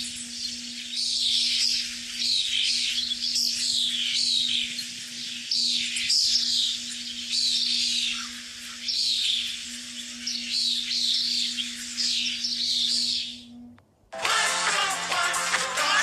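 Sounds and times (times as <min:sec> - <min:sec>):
birds calling: 0:00.0 - 0:13.8
faint low hum: 0:00.0 - 0:14.2.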